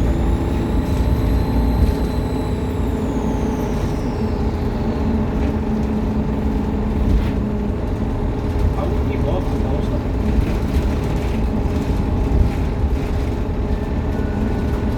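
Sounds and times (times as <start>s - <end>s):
bus engine drone: 0.0s - 14.9s
high-pitched turbocharger whine: 0.0s - 14.9s.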